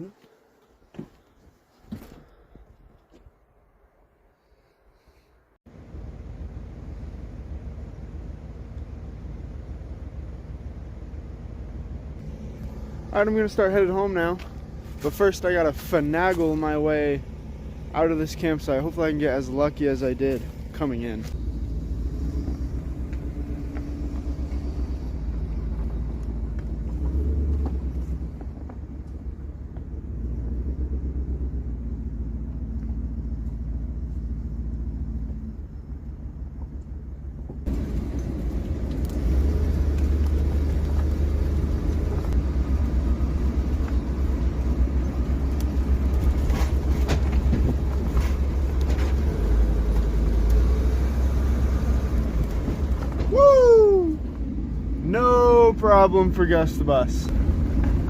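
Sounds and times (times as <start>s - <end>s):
bus engine rumbling: 5.0s - 58.0s.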